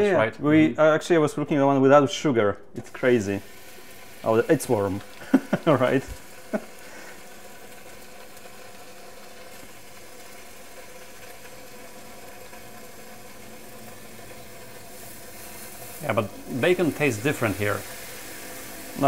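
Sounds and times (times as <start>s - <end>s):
bacon sizzling in a pan: 2.8s - 19.0s.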